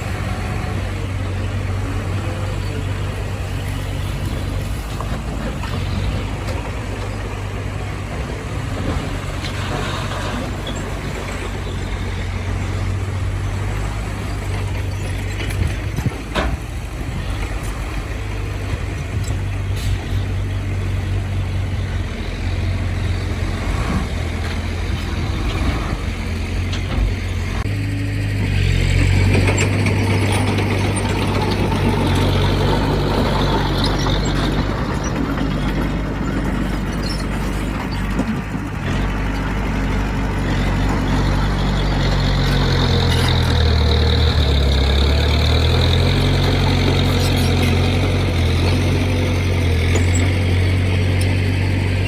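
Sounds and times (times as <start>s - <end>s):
diesel engine drone: 0.0s - 52.0s.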